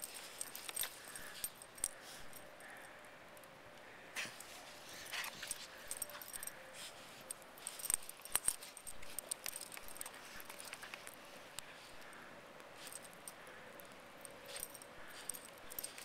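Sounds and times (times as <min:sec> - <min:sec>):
dog collar tags jangling: 0:00.0 - 0:02.9, 0:04.2 - 0:16.0.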